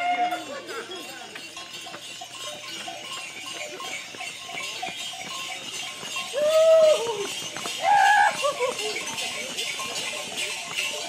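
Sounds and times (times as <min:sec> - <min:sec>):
bells jingling and clanking: 0:00.0 - 0:11.0.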